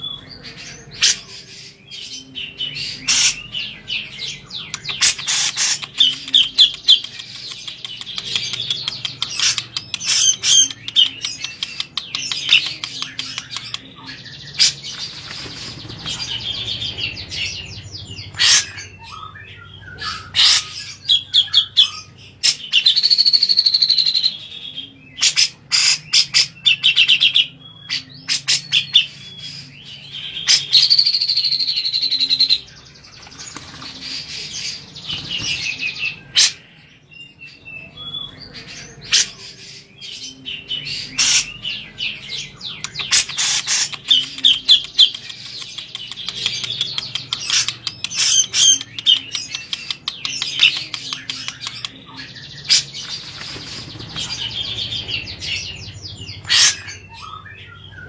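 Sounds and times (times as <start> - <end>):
bird chattering and trilling: 0.0 - 58.0.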